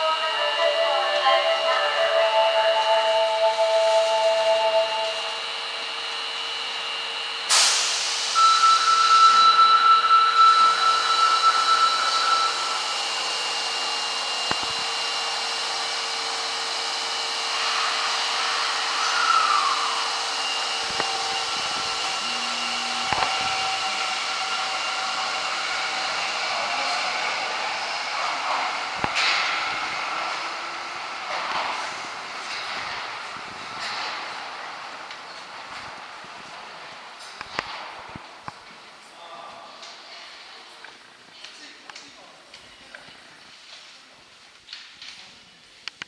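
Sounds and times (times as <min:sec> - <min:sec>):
train whining tones: 0:00.0 - 0:37.2
subway train humming: 0:00.0 - 0:39.2.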